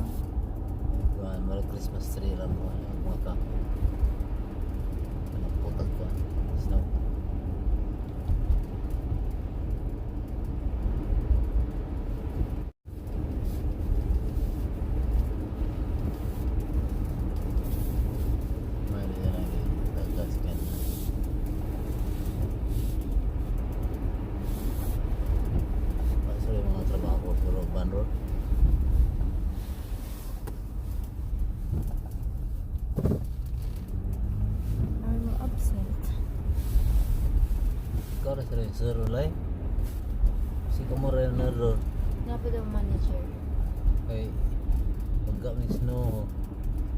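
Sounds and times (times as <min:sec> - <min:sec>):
car driving low rumble: 0:00.0 - 0:46.9.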